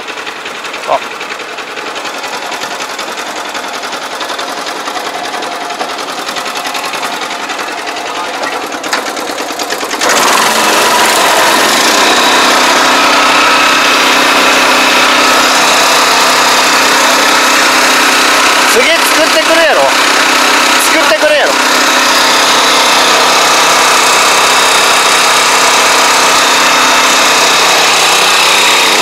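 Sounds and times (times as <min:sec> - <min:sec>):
sprayer engine and pump running: 0:00.0 - 0:29.0.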